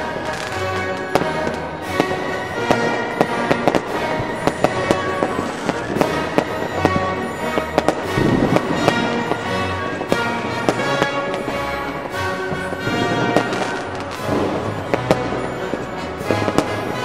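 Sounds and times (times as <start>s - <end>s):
fireworks bangs and crackles: 0.0s - 17.0s
music with held notes: 0.0s - 17.0s.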